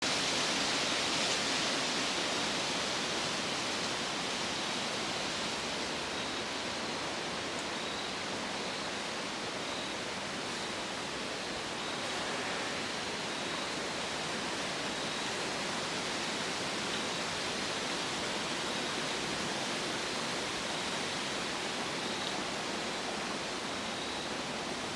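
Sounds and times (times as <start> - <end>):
wind rustling tree leaves: 0.0 - 24.9.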